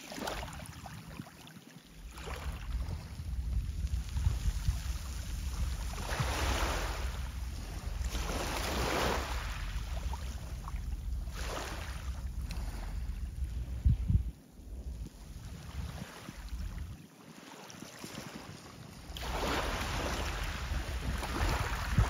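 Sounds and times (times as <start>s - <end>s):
small waves splashing on shore: 0.0s - 22.0s
wind rumbling on microphone: 0.2s - 22.0s.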